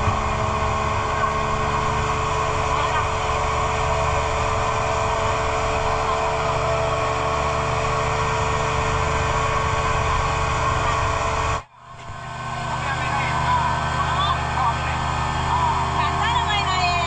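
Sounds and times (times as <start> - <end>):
motorboat engine running: 0.0 - 17.0
water rushing along hull: 0.0 - 17.0.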